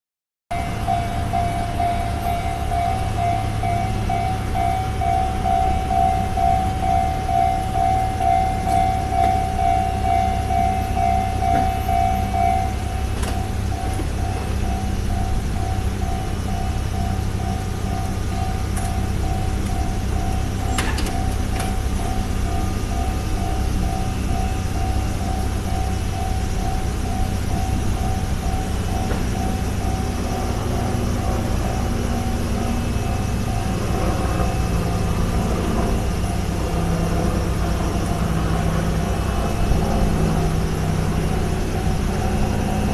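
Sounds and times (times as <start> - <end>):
level crossing warning bell: 0.5 - 42.9
steady low rumble: 0.5 - 42.9.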